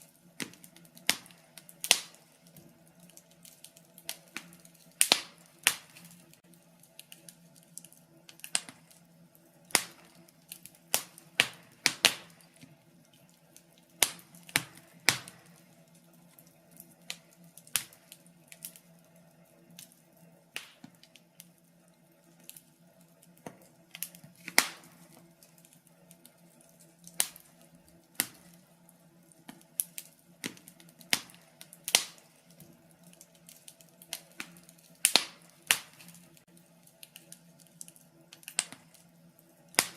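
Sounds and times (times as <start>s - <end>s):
faint steady background noise: 0.0s - 39.9s
wood fire crackling and popping: 0.0s - 39.9s.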